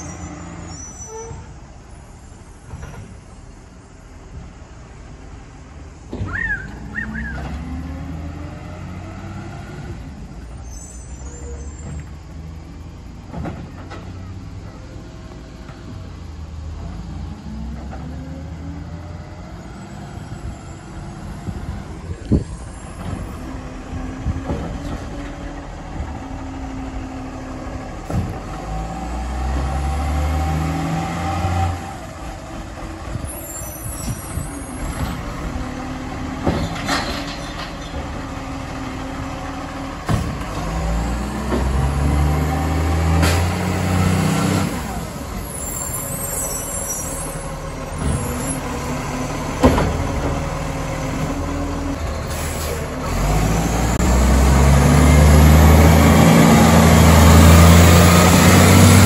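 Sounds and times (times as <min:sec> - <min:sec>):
diesel engine revving: 0:06.1 - 0:59.0.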